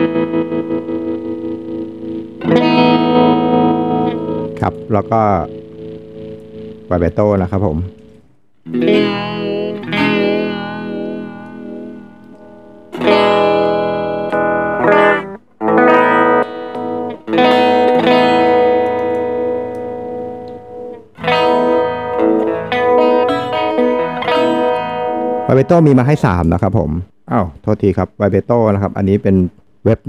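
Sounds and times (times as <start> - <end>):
electric guitar chords with vibrato: 0.0 - 26.0.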